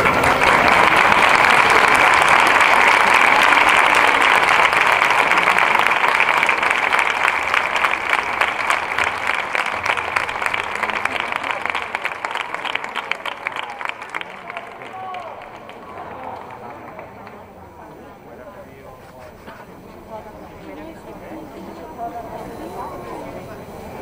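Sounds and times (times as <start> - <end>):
crowd applauding: 0.0 - 24.0.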